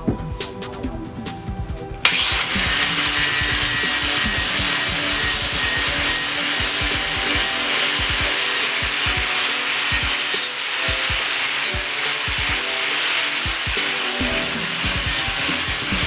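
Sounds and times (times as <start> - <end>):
background music: 0.0 - 16.0
rasping abrasive tool work: 2.1 - 16.0.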